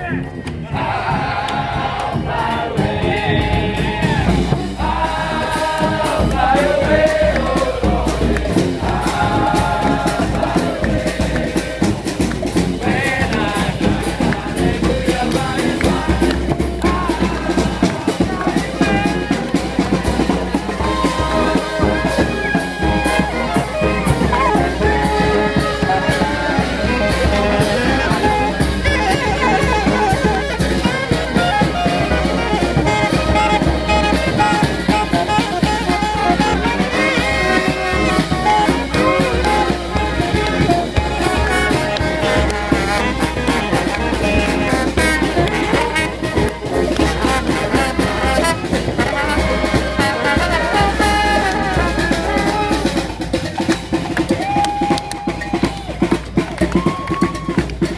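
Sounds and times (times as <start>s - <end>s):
brass band playing gospel: 0.0s - 57.9s
steady drum beat: 0.0s - 57.9s.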